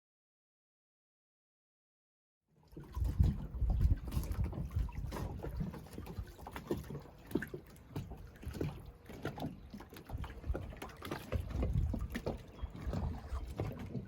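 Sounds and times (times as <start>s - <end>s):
water lapping against boat hull: 2.5s - 14.0s.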